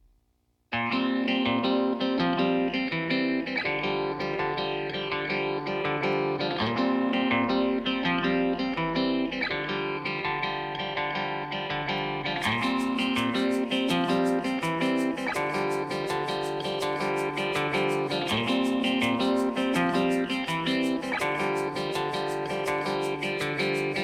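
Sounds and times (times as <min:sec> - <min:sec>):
plucked guitar: 0:00.7 - 0:24.0.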